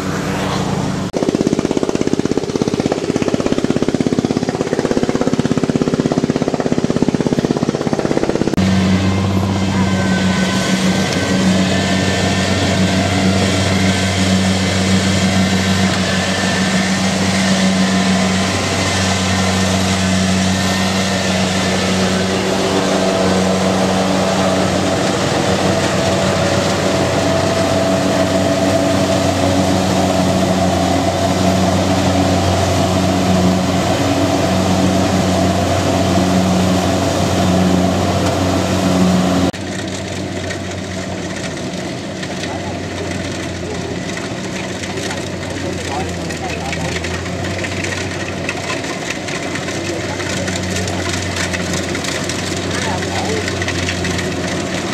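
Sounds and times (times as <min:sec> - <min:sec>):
large diesel engine running: 0:00.0 - 0:54.9.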